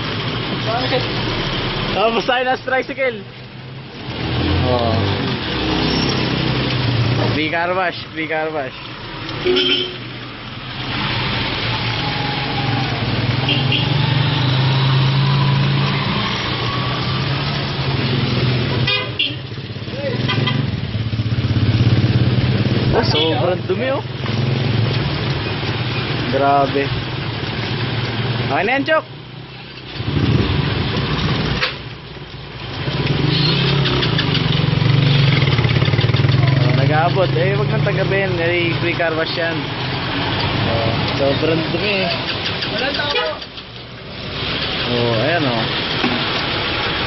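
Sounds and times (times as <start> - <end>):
vehicle engines passing: 0.0 - 47.0.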